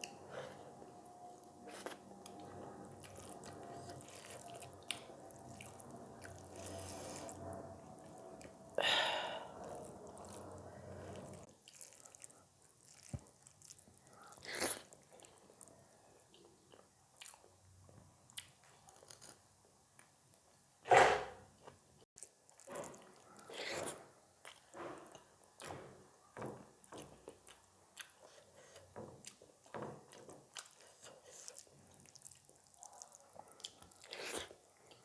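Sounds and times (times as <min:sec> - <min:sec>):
chewing and crunching food: 0:00.0 - 0:20.6, 0:21.6 - 0:35.0.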